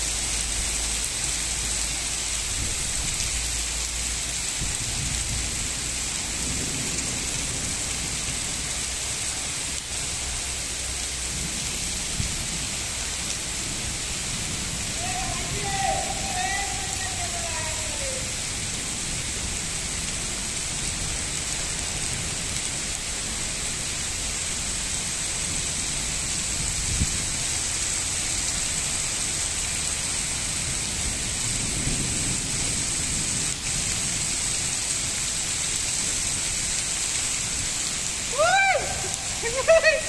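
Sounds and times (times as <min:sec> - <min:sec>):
heavy rain on paving: 0:00.0 - 0:40.0.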